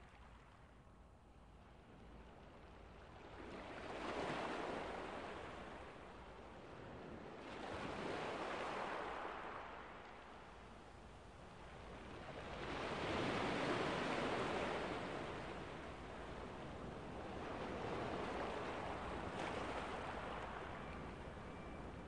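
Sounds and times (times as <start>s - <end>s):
ocean waves washing ashore: 3.2s - 22.0s.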